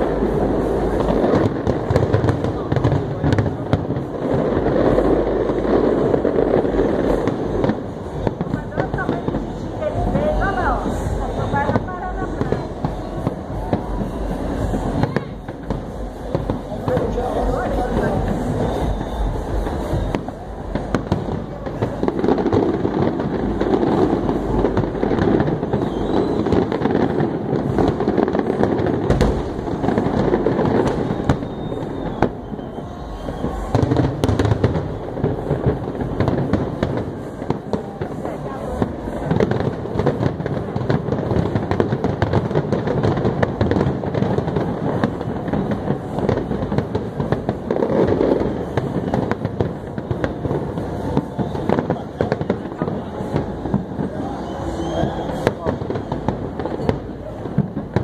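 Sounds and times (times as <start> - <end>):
fireworks bursting: 0.0 - 58.0
fireworks crackling: 0.0 - 58.0.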